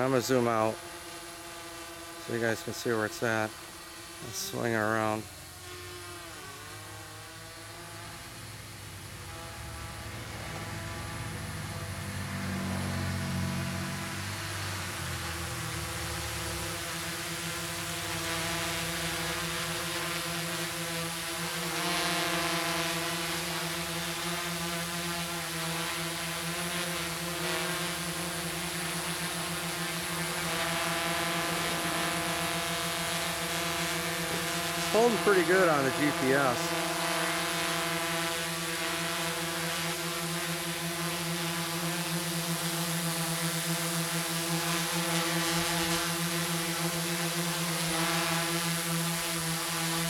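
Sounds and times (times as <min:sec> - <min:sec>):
quadcopter propeller buzz: 0:00.0 - 0:50.0.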